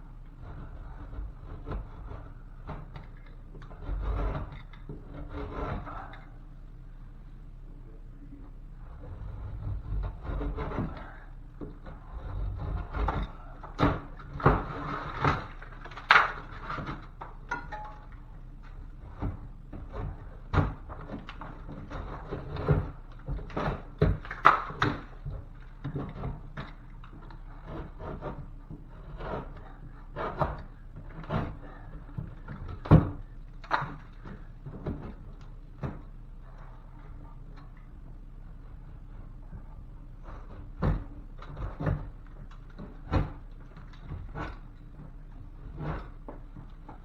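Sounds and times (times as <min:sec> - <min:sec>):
knife scraping drywall: 0:00.4 - 0:06.5, 0:08.8 - 0:47.0.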